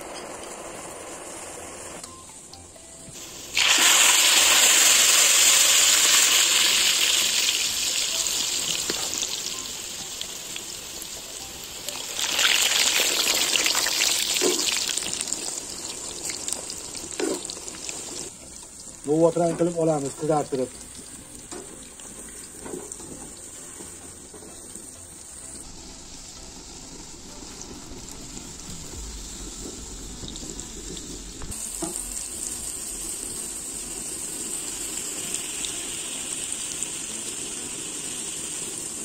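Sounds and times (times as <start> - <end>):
potatoes sizzling in hot oil: 0.0 - 39.0.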